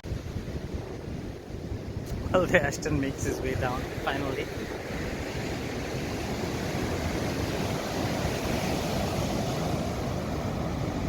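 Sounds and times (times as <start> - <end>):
rough surf: 0.0 - 11.0
wind buffeting microphone: 0.0 - 11.0.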